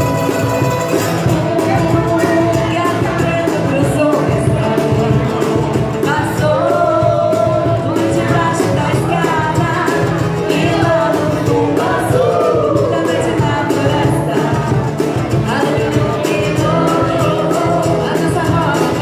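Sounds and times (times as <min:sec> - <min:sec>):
strummed guitars: 0:00.0 - 0:19.0
woman singing into microphone: 0:01.2 - 0:19.0.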